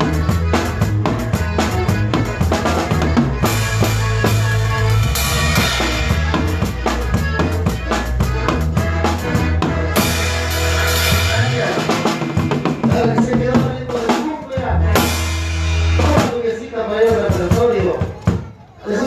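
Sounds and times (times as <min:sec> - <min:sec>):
drum kit: 0:00.0 - 0:18.6
bass line: 0:00.0 - 0:19.0
live band instrumental: 0:00.0 - 0:19.0.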